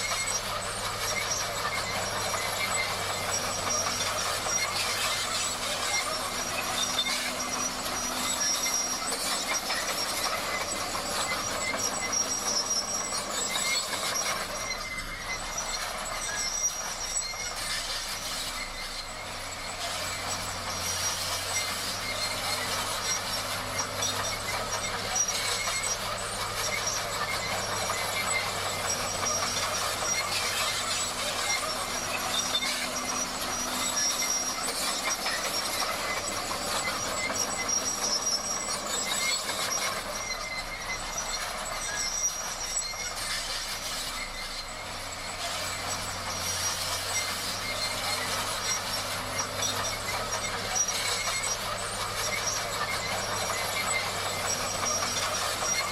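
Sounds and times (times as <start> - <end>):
bulldozer tracks clattering and squealing: 0.0 - 55.9.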